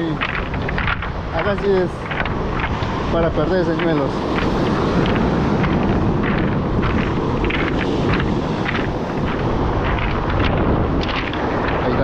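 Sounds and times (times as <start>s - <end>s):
footsteps crunching on pebbles: 0.0s - 12.0s
surf rushing: 0.0s - 12.0s
wind buffeting microphone: 0.0s - 12.0s.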